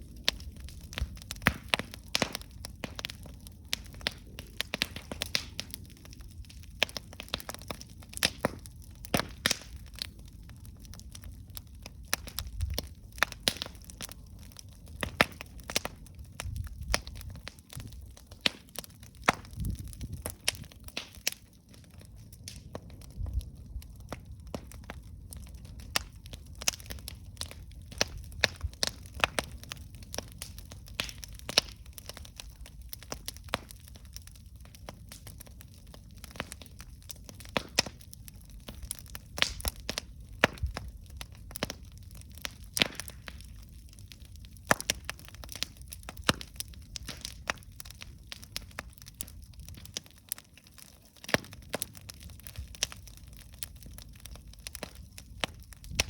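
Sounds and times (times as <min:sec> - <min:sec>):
campfire popping and crackling: 0:00.0 - 0:56.0
low rumble of flames: 0:00.0 - 0:56.0.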